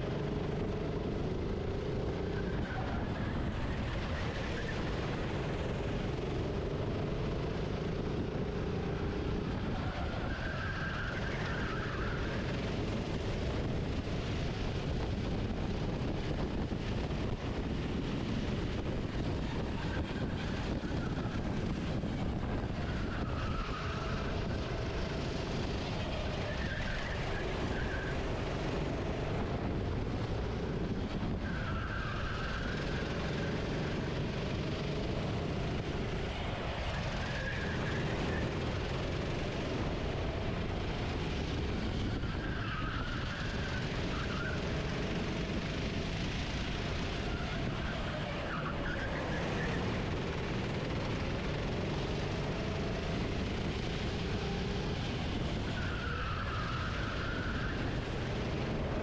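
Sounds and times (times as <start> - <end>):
racing kart engine revving: 0.0 - 59.0
steady rushing noise: 0.0 - 59.0.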